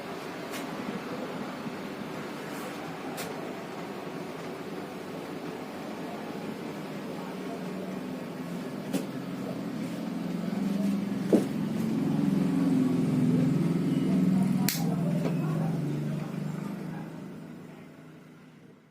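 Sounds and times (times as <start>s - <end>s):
ceiling fan motor hum: 0.0s - 18.8s.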